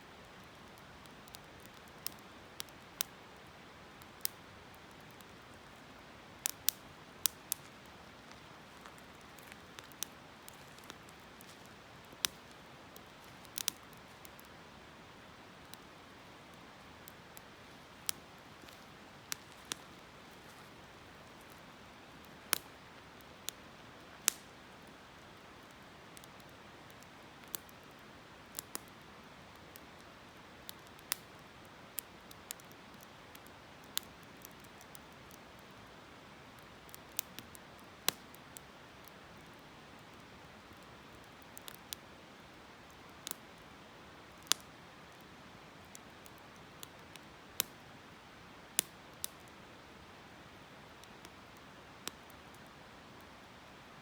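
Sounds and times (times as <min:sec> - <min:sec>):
wood fire crackling: 0:00.1 - 0:54.0.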